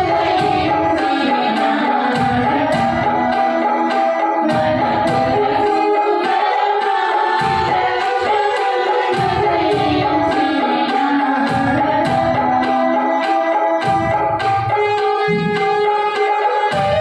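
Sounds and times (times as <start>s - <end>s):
women singing together: 0.0s - 14.8s
percussion beat: 0.0s - 17.0s.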